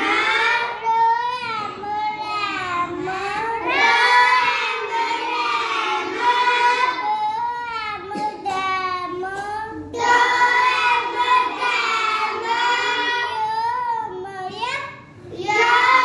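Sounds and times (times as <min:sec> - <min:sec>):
girl reading in sing-song chant: 0:00.0 - 0:16.0.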